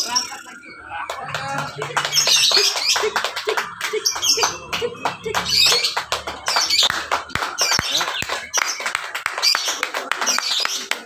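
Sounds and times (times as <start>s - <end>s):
lovebirds chirping and trilling: 0.0s - 11.0s
people's voices: 0.0s - 11.0s.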